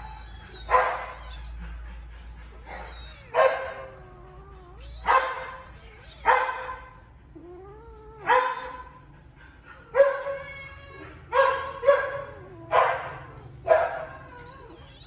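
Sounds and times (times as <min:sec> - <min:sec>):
kittens crying: 0:00.0 - 0:15.0.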